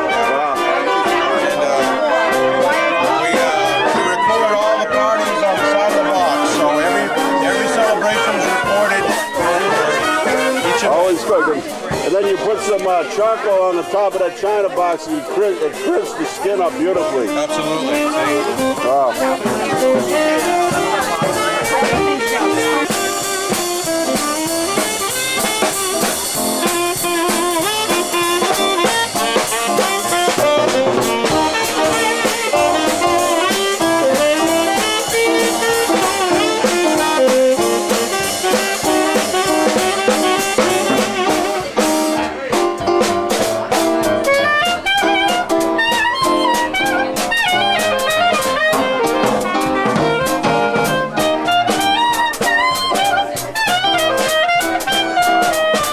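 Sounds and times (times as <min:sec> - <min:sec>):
jazz band playing: 0:00.0 - 0:55.9
saxophone lead: 0:00.0 - 0:55.9.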